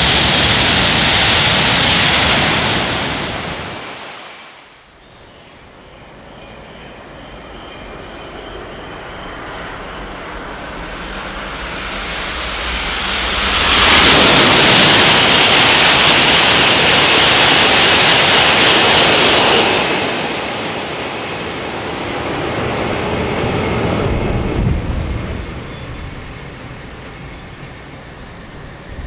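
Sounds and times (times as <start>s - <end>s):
high speed train passing: 0.0s - 29.0s.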